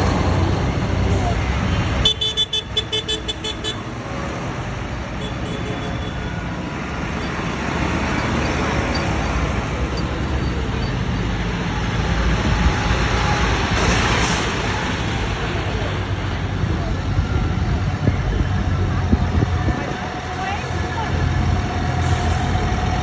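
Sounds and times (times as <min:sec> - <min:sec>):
tractor engines rumbling: 0:00.0 - 0:23.0.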